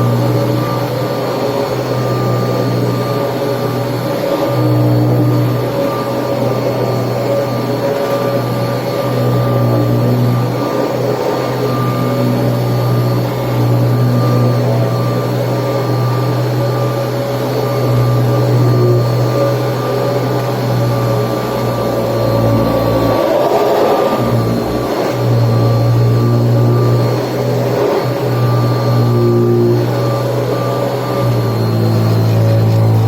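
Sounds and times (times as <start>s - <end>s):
vacuum cleaner running: 0.0s - 33.0s.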